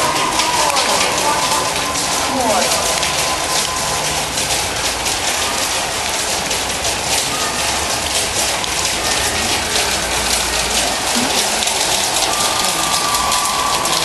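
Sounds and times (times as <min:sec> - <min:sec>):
rain on a metal roof: 0:00.0 - 0:14.0.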